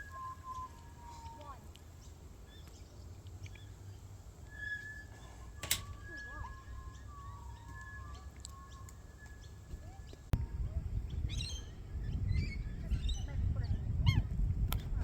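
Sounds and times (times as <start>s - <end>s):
birds whistling and chirping: 0.0s - 10.4s, 11.1s - 14.3s.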